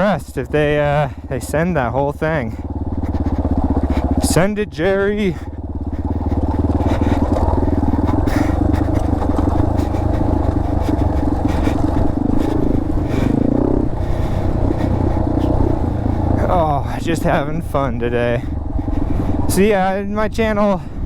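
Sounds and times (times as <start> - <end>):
higher engine note: 0.0 - 20.6
engine running at low speed: 0.0 - 21.0.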